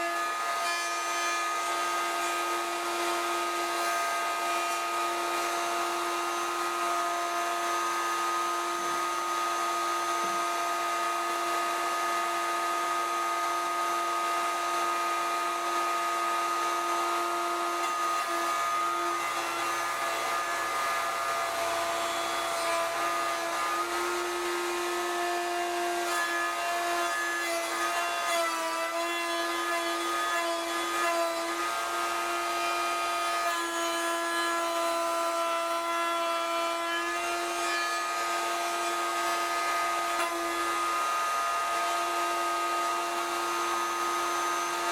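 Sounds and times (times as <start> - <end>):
router whining through wood: 0.0 - 44.9.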